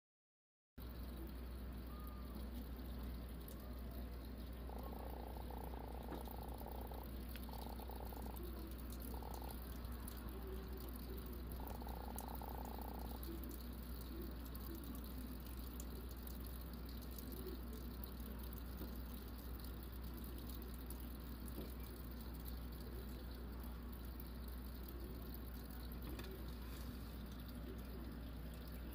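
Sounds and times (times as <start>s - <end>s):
steady low hum: 0.8s - 28.9s.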